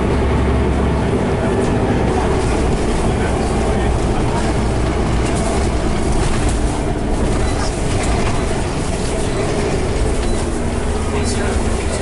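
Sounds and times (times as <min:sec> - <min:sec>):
bus diesel engine: 0:00.0 - 0:12.0
road noise: 0:00.0 - 0:12.0.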